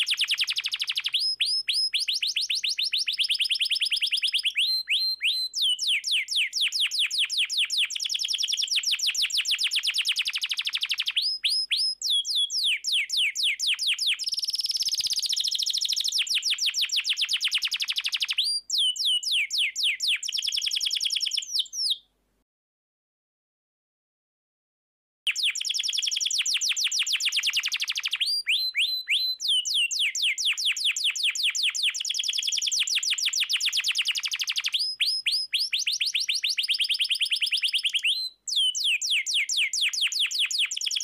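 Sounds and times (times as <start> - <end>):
canary singing trills: 0.0 - 22.0, 25.3 - 41.0.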